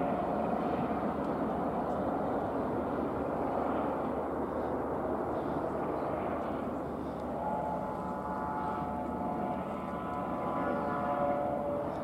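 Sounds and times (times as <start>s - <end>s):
helicopter rotors and engine: 0.0s - 12.0s.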